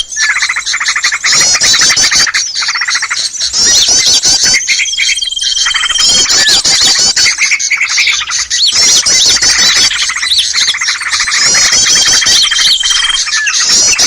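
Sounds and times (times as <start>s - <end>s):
high bird whistle: 0.0s - 14.0s
small birds chattering and chirping: 0.0s - 14.0s.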